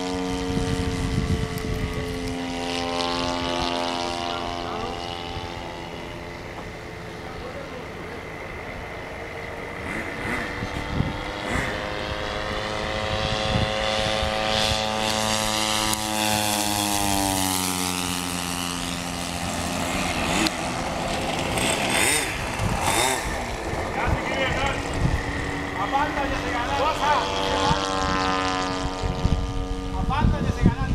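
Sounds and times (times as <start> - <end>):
model airplane engine and propeller: 0.0 - 30.9.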